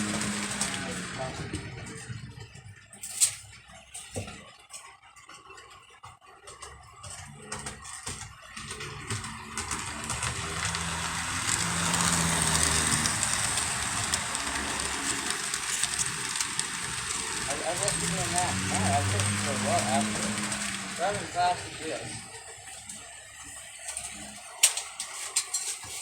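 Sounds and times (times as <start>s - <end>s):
model train motor whir: 0.0s - 5.4s, 8.4s - 26.0s.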